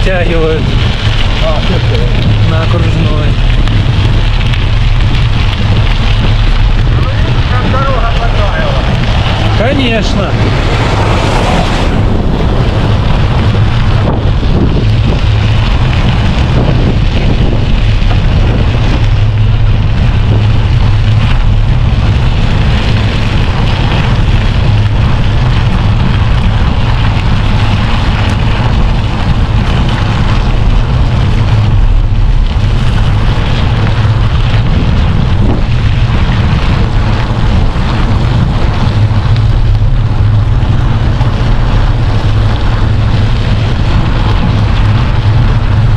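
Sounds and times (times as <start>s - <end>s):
tyres rumbling on snowy road: 0.0s - 45.9s
wind buffeting microphone: 0.0s - 45.9s.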